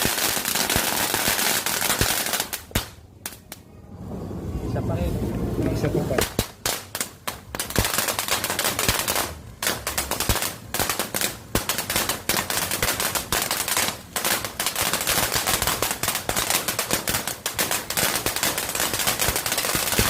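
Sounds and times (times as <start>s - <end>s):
fireworks fountain crackling: 0.0s - 20.0s.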